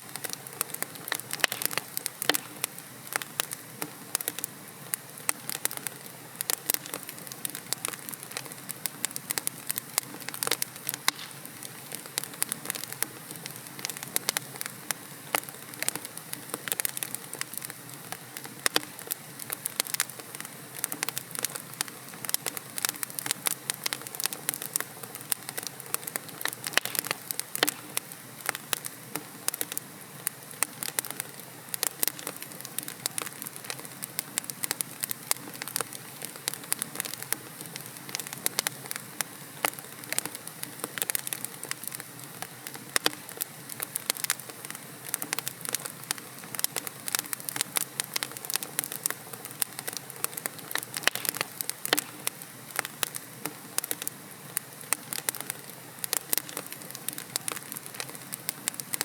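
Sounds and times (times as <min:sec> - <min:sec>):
fire crackling and popping: 0:00.0 - 0:59.0
soft fire hiss: 0:00.0 - 0:59.0.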